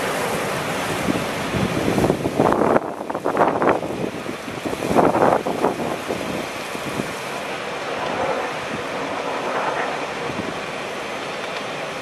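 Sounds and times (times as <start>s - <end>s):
blizzard wind rushing: 0.0s - 12.0s.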